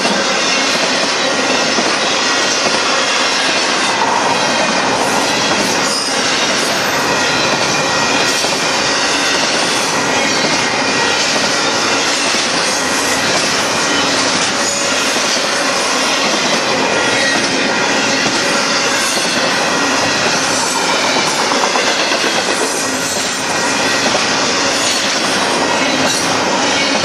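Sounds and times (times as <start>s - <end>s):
steel wheels rolling on rail: 0.0s - 27.0s.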